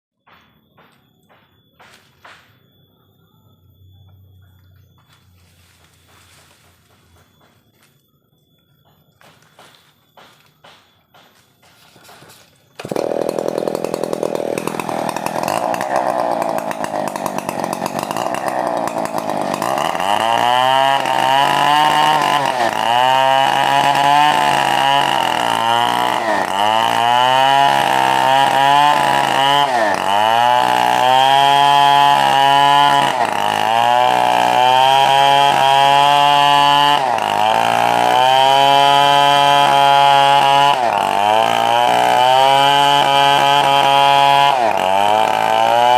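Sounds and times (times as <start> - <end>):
chainsaw cutting wood: 0.2 - 2.6, 5.0 - 7.9, 9.1 - 45.9.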